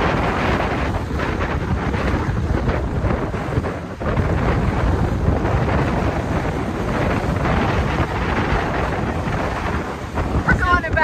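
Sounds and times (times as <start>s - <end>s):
water rushing along a hull: 0.0s - 11.0s
wind blowing on microphone: 0.0s - 11.0s.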